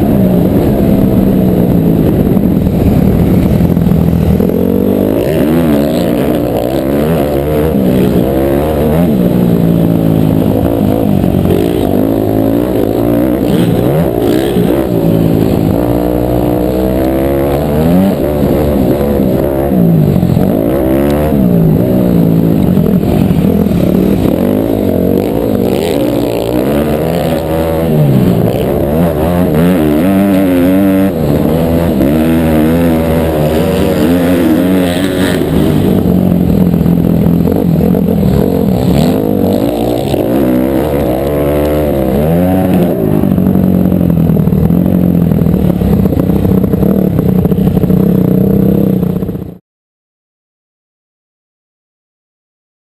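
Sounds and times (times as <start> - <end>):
motorcycle engine revving: 0.0 - 49.6.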